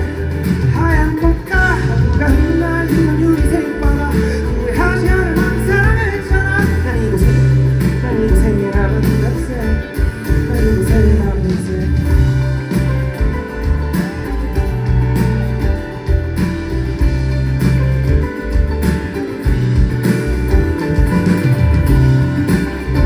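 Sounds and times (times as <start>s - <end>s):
electric guitar: 0.0s - 23.0s
live pop-rock band playing: 0.0s - 23.0s.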